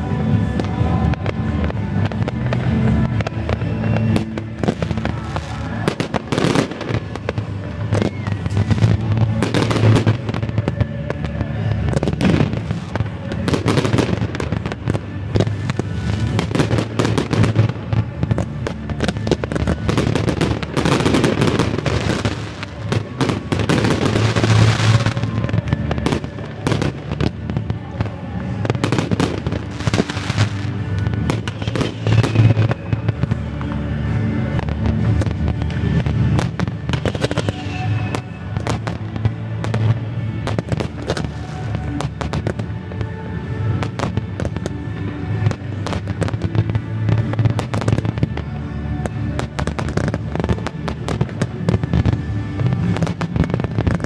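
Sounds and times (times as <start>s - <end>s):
hissing crackling sparks: 0.0s - 54.0s
music: 0.0s - 54.0s.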